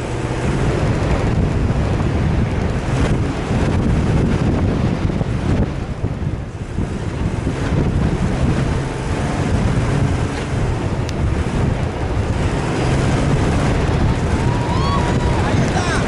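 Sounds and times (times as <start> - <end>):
vehicle engine rumble: 0.0 - 16.0
wind buffeting microphone: 0.0 - 16.0.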